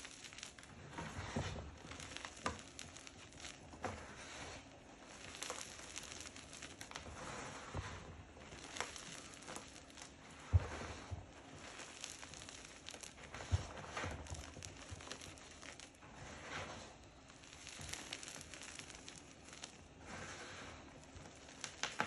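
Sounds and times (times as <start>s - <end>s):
hands crunching chalk powder: 0.0s - 22.0s.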